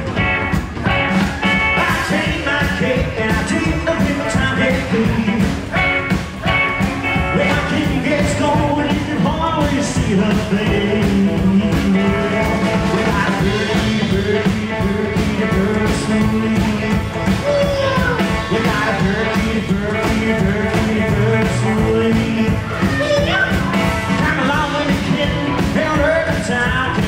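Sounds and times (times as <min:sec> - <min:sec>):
drum kit beat: 0:00.0 - 0:27.0
electric guitar: 0:00.0 - 0:27.0
upright double bass: 0:00.0 - 0:27.0.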